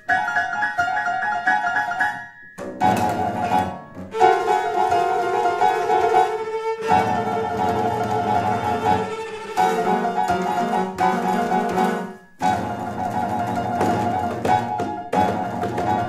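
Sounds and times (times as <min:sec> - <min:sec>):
piano: 0:00.0 - 0:16.0
bowed strings: 0:02.8 - 0:16.0.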